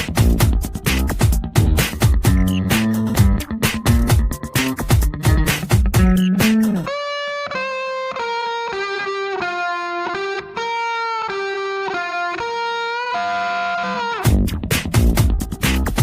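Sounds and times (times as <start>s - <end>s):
electric guitar melody: 0.0s - 16.0s.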